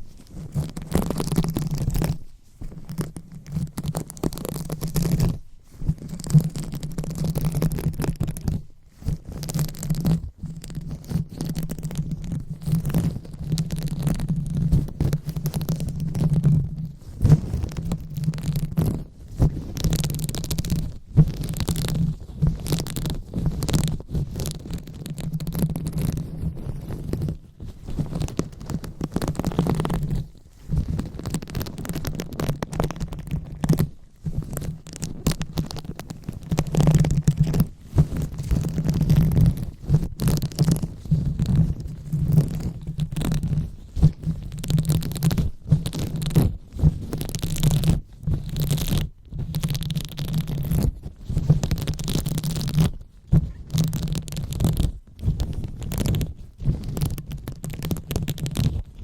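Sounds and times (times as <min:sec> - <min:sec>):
fingers rubbing on microphone: 0:00.0 - 0:59.0.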